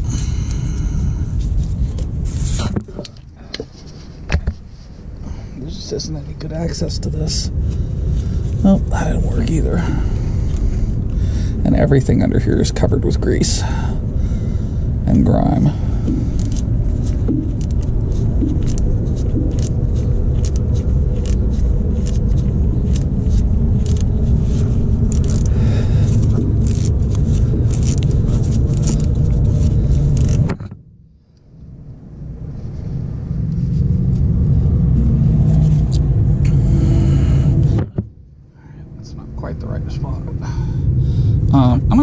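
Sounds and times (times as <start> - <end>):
low rumble: 0.0 - 42.0.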